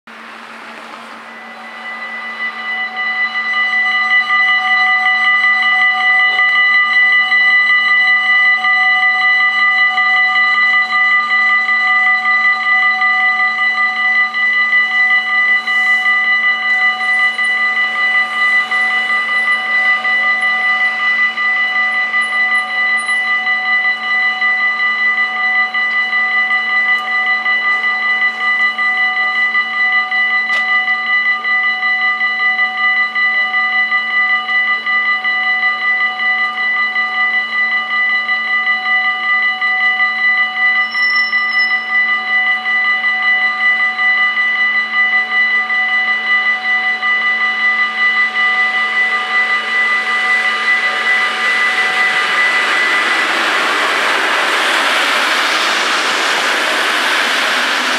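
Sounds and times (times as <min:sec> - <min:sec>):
level crossing warning bells: 0:00.1 - 0:57.9.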